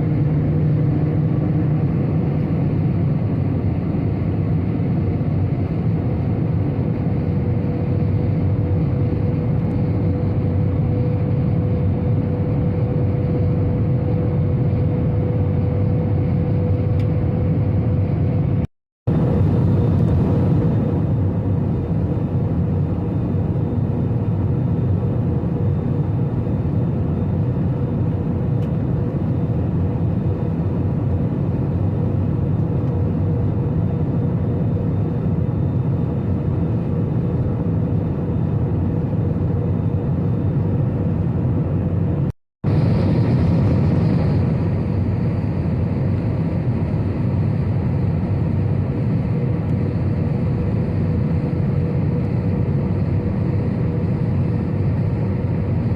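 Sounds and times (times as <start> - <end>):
airplane cabin engine drone: 0.0 - 55.9
constant hum: 0.0 - 55.9.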